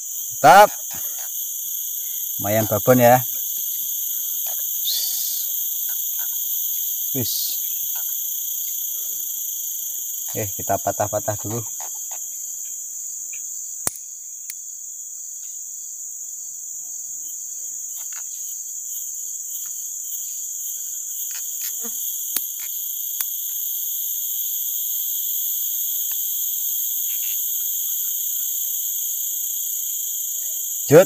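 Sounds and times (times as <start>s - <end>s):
forest insects buzzing: 0.0s - 31.0s.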